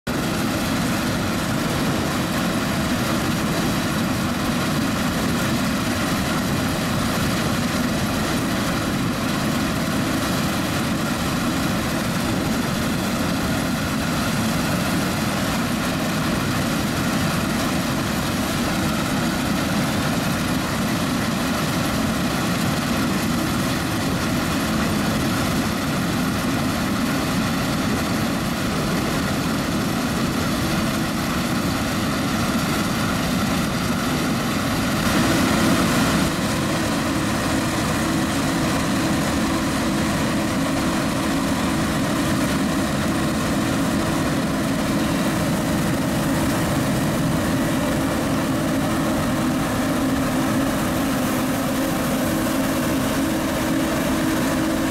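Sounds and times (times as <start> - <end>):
combine harvester running: 0.1 - 54.9.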